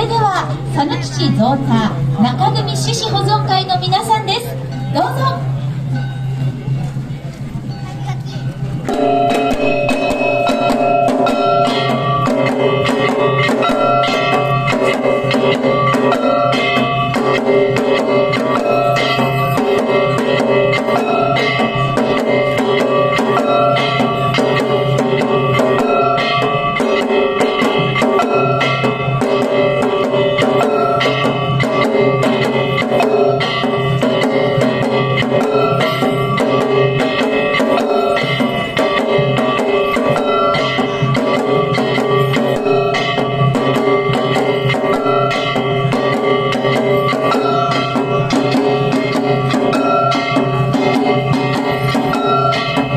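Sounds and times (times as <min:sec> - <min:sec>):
drums in fast rhythm: 0:00.0 - 0:52.9
held pitched notes: 0:00.0 - 0:52.9.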